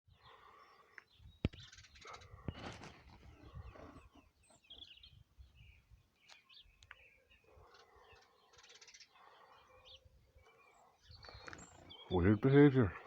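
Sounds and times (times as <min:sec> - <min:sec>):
faint bird chirps: 0:00.1 - 0:12.2.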